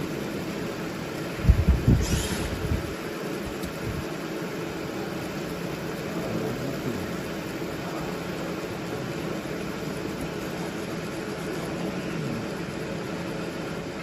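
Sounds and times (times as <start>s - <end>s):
laser machine hum and hiss: 0.0s - 14.0s.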